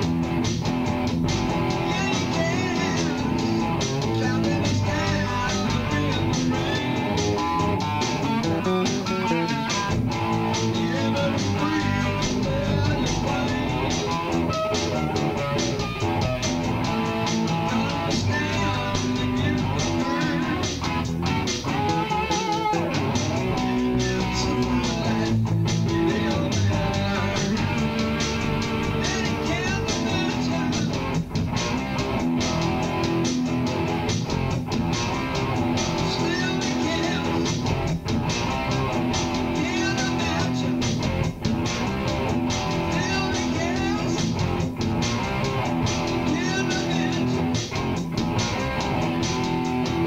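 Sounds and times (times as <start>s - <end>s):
bass line: 0.0s - 50.0s
plucked guitar notes: 0.0s - 50.0s.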